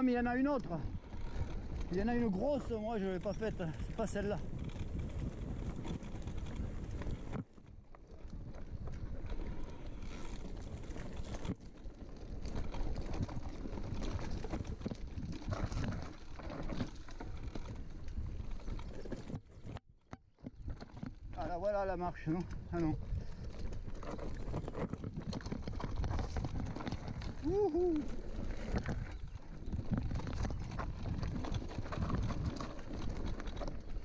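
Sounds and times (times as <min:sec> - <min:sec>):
tyres crunching over loose stones: 0:00.0 - 0:19.8, 0:20.4 - 0:34.0
bike rattling and knocking: 0:00.0 - 0:34.0.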